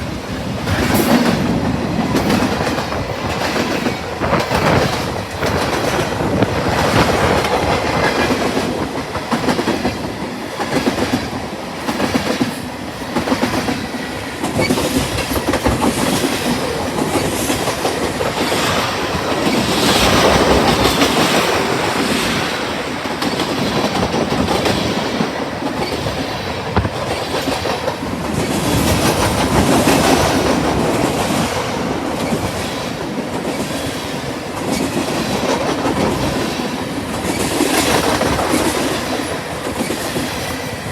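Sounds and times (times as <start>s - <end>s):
train rumble: 0.0s - 40.9s
train wheels clacking over rail joints: 0.6s - 40.9s.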